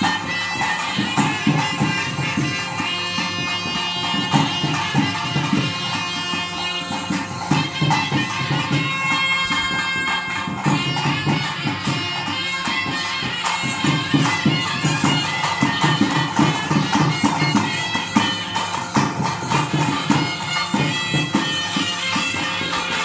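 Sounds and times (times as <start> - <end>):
fast steady drumming: 0.0 - 23.0
jingling percussion: 0.0 - 23.0
reed wind instrument melody: 0.0 - 23.0.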